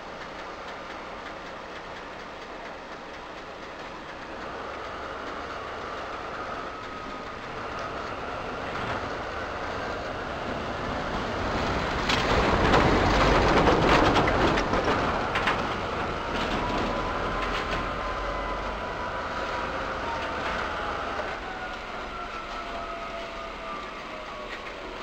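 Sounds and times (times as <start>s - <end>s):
diesel locomotive engine running: 0.0s - 25.0s
wheels clicking over rail joints: 0.0s - 25.0s.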